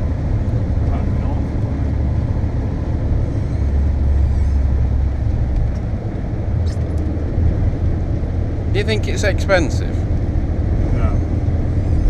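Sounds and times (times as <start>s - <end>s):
car cabin rumble at speed: 0.0s - 12.0s.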